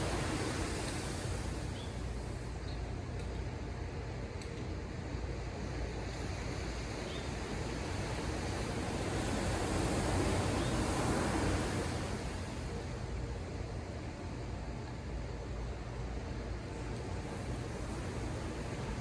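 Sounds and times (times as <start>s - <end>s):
low rumble of the sea: 0.0s - 19.0s.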